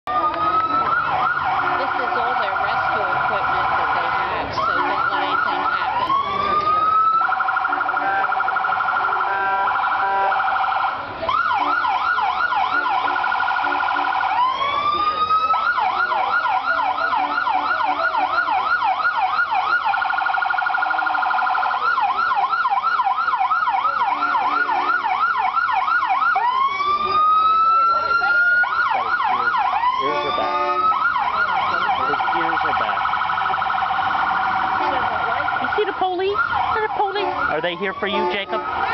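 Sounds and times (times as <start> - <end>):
police siren wailing and yelping: 0.0 - 38.9.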